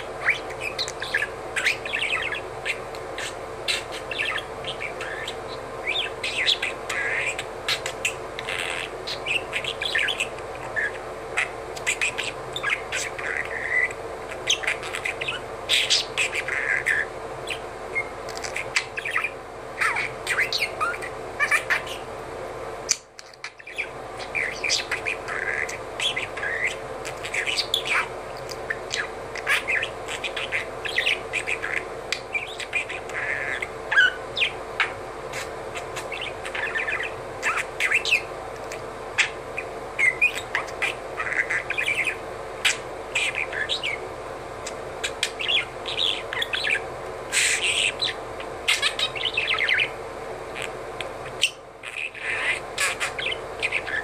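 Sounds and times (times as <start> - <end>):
budgerigar chattering: 0.0 - 22.1, 23.4 - 44.0, 45.0 - 50.0, 50.6 - 54.0.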